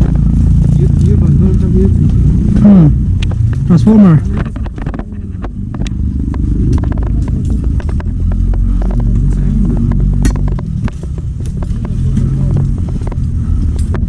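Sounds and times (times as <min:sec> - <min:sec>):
diesel engine of heavy machinery: 0:00.0 - 0:14.0
sharp knocks and clanks: 0:01.2 - 0:14.0.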